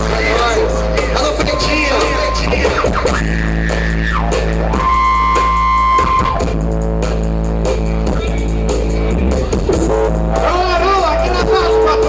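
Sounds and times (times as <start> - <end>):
loud band music: 0.0 - 12.0.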